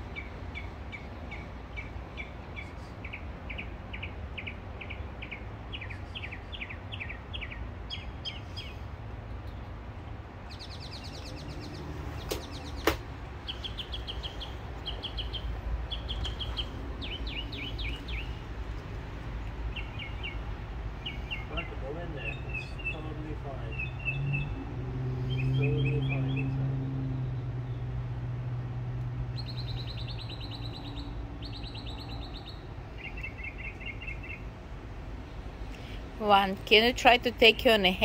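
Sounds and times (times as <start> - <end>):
birds chirping: 0.0 - 28.2, 29.3 - 36.0.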